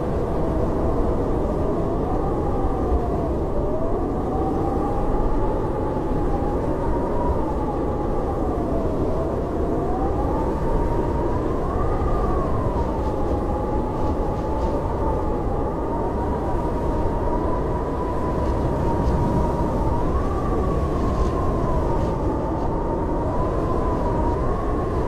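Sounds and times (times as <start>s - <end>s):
wind howling: 0.0s - 25.0s.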